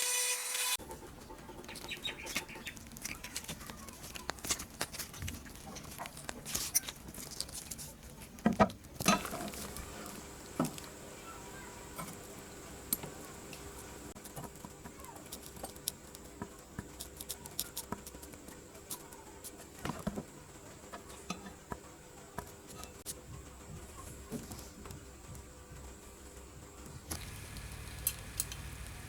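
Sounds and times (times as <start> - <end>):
faint steady hum: 1.1 - 29.0.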